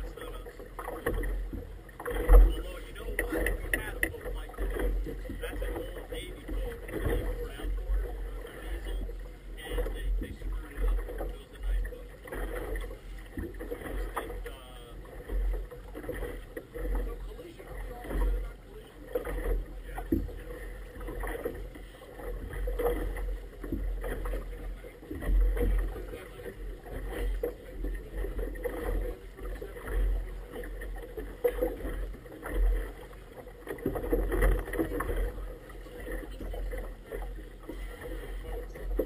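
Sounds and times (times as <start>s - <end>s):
waves lapping against boat: 0.0s - 39.0s.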